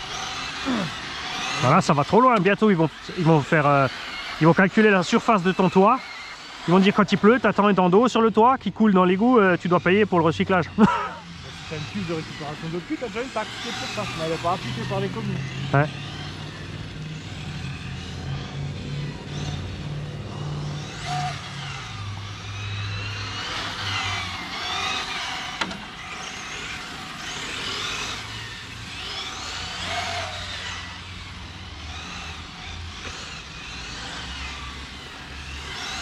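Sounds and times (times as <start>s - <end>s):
electric toy car motors whining: 0.0s - 36.0s.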